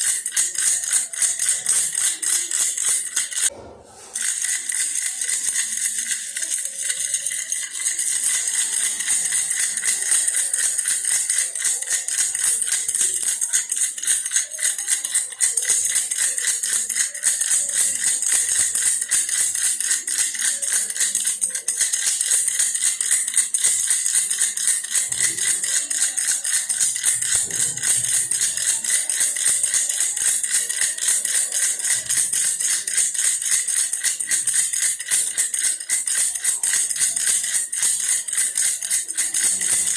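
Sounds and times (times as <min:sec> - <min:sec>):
toy rattle shaken: 0:00.0 - 0:39.9.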